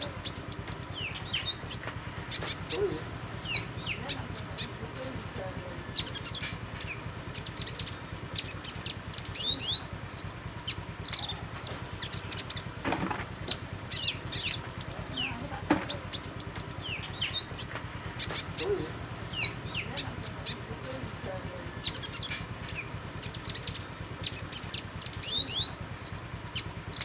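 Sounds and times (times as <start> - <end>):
songbird chirping and whistling: 0.0 - 4.8, 5.8 - 12.7, 13.5 - 20.7, 21.7 - 27.0
low steady hum: 0.0 - 27.0.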